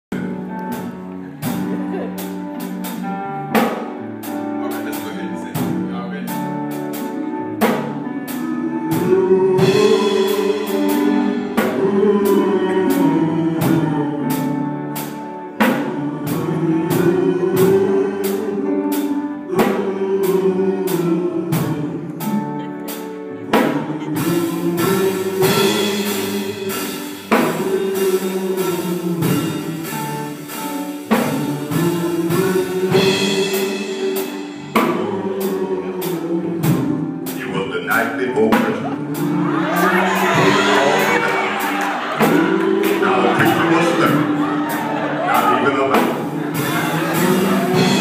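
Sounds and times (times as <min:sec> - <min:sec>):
band with steady drum beat: 0:00.1 - 0:48.0
male vocal group singing in harmony: 0:06.4 - 0:48.0.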